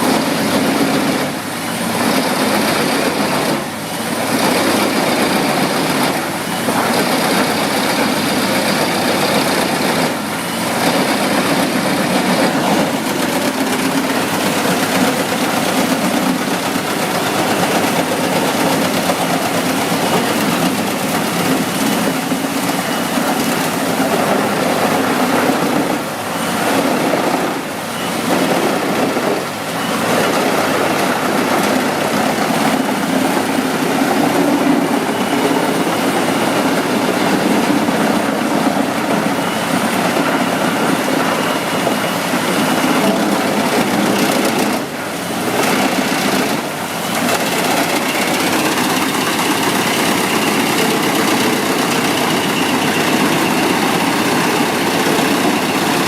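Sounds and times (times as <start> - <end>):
wood chipper running: 0.0 - 56.0.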